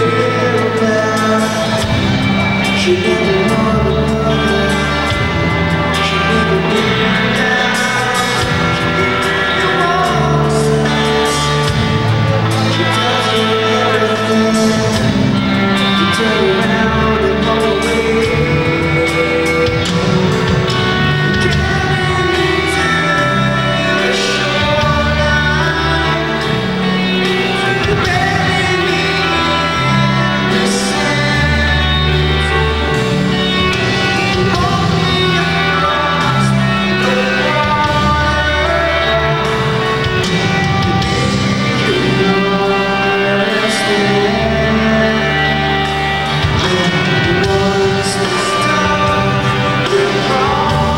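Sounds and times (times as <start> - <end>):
drums: 0.0 - 50.9
electric guitars: 0.0 - 50.9
person singing: 0.0 - 50.9.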